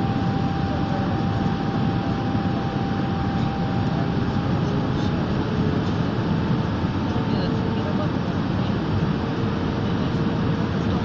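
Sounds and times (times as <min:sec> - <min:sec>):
engine and airflow rush: 0:00.0 - 0:11.0.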